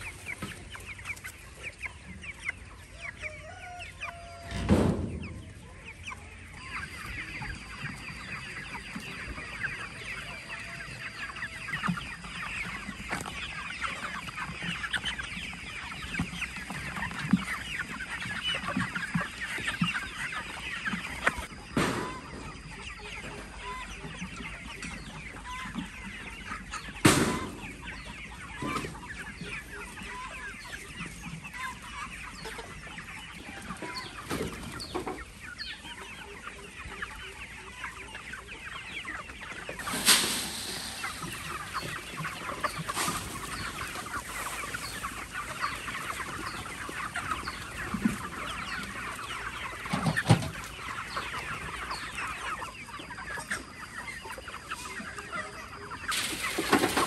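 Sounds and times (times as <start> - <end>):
chickens clucking and cheeping: 0.0 - 57.0.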